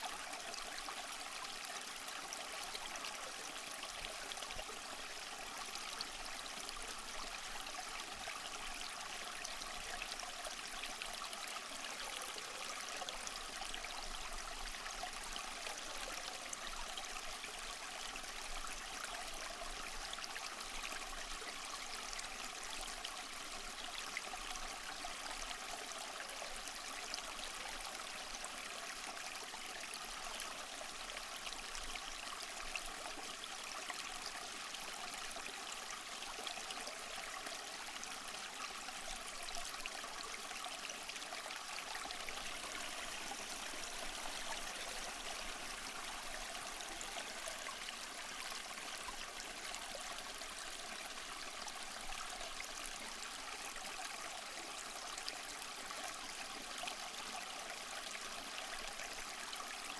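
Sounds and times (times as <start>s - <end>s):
small waterfall splashing over rocks: 0.0s - 59.9s.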